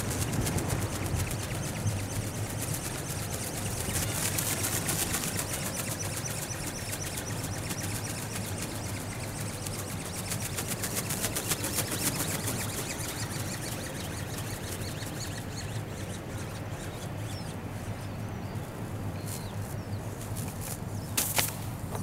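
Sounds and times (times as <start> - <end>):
small birds chirping: 0.0 - 22.0
wind buffeting microphone: 0.0 - 22.0.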